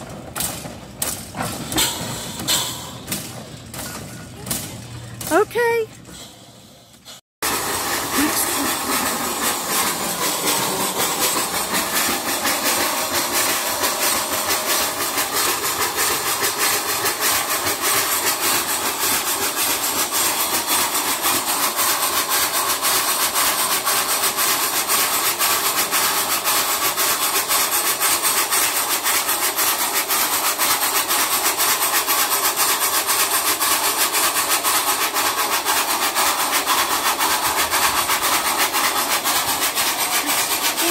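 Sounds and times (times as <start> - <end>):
steam engine beat: 0.0 - 40.9
steam hissing: 1.4 - 4.6, 6.1 - 40.9.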